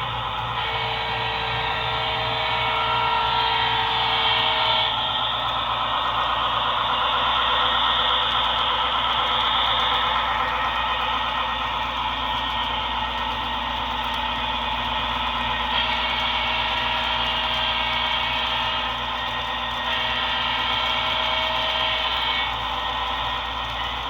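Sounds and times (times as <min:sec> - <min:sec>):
model trains humming: 0:00.0 - 0:24.0.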